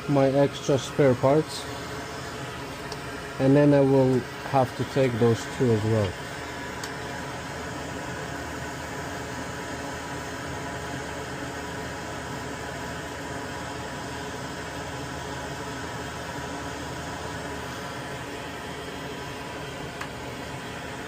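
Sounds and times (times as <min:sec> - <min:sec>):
hot air station fan hiss: 0:00.0 - 0:21.0.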